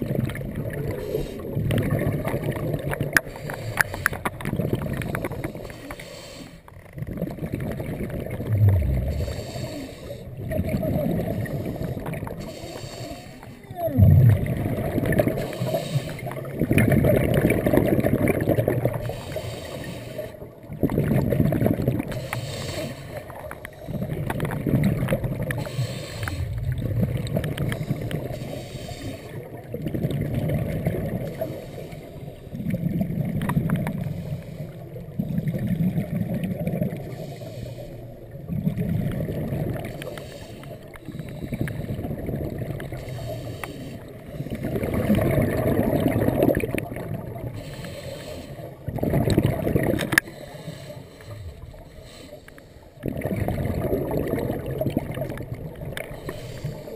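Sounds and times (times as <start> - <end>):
underwater bubbles gurgling: 0.0 - 56.9.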